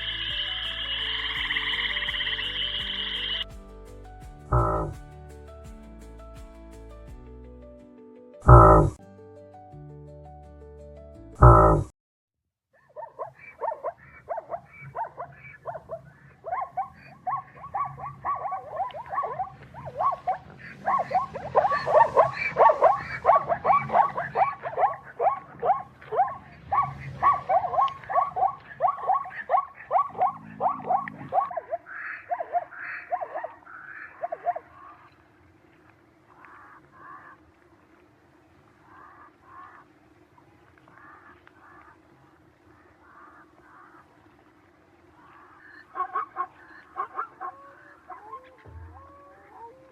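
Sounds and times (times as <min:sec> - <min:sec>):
repeated animal calls: 0:00.0 - 0:03.4, 0:04.5 - 0:05.0, 0:08.4 - 0:09.0, 0:11.4 - 0:11.9, 0:12.8 - 0:49.9.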